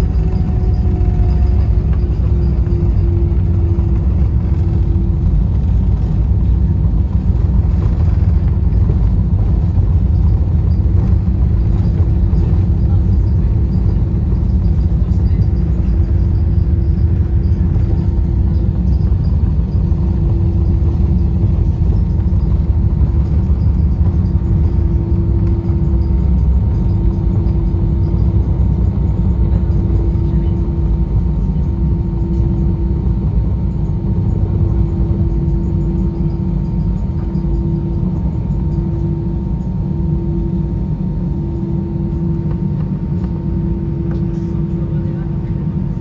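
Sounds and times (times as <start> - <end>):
aircraft cabin engine rumble: 0.0 - 46.0
steady hum: 0.0 - 46.0.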